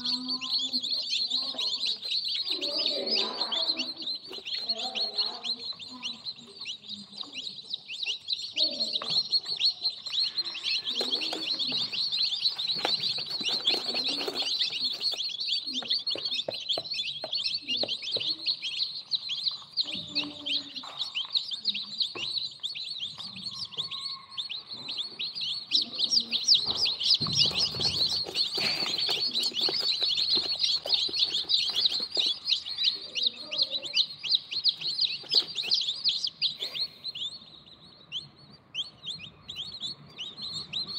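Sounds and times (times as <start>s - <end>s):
chicks cheeping: 0.0s - 40.9s.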